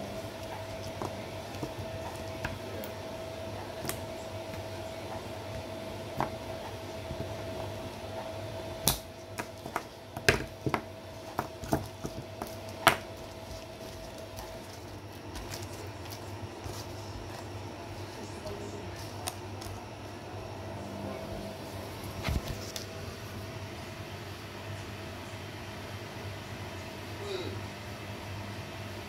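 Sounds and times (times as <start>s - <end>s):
faint high hum: 0.0s - 29.0s.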